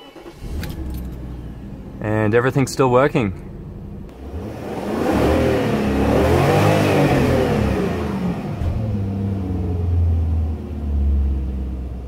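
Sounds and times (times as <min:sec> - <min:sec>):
car engine revving then idling: 0:00.1 - 0:12.0.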